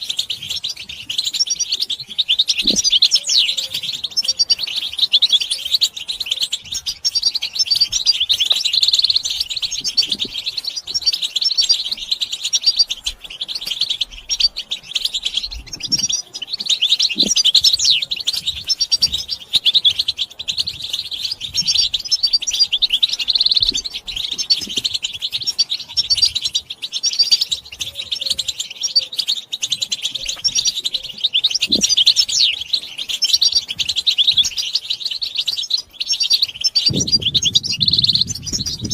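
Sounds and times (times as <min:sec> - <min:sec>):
finches twittering: 0:00.0 - 0:38.9.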